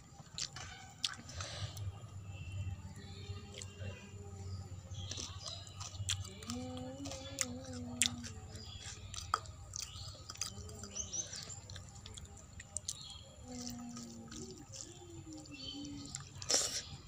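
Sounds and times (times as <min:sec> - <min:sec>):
low drawn-out hum: 0:00.0 - 0:17.0
chewing with wet mouth clicks: 0:00.1 - 0:01.9, 0:03.0 - 0:04.3, 0:04.9 - 0:17.0.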